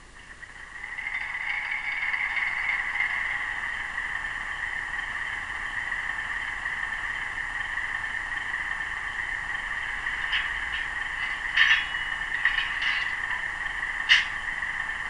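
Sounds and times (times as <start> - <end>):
tinny diesel engine idling drone: 0.0 - 15.0.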